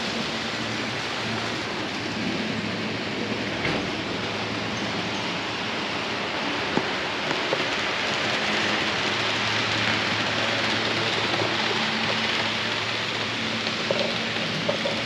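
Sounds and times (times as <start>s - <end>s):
model trains rolling: 0.0s - 15.0s.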